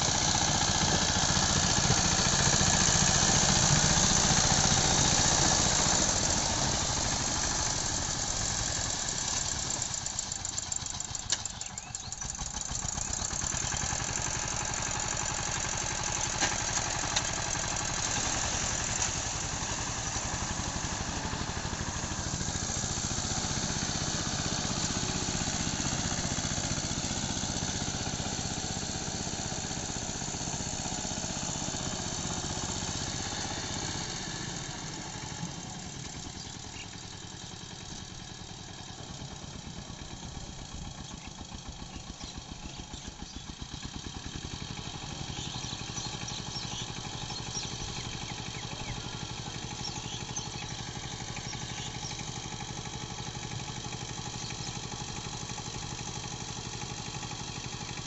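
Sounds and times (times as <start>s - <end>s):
diesel tiller engine chugging: 0.0s - 58.0s.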